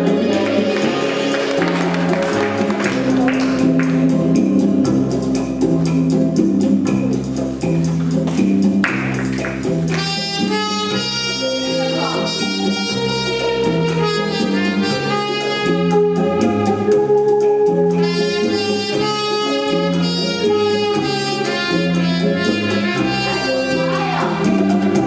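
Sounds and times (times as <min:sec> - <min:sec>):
rumba dance music: 0:00.0 - 0:25.0.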